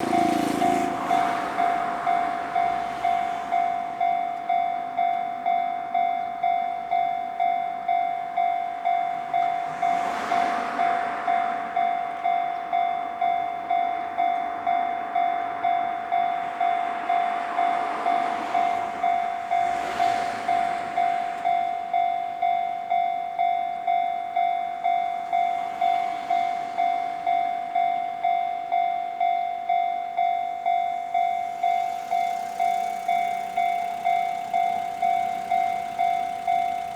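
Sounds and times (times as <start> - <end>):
level crossing alarm ringing: 0.0 - 36.9.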